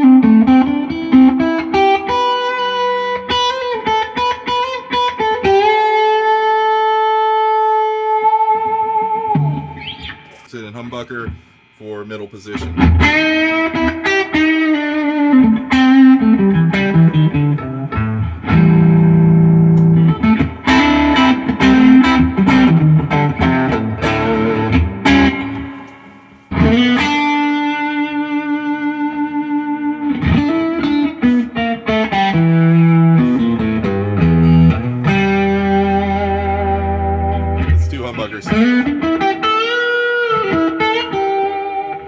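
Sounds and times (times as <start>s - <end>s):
overdriven electric guitar: 0.0s - 10.5s, 12.5s - 42.0s.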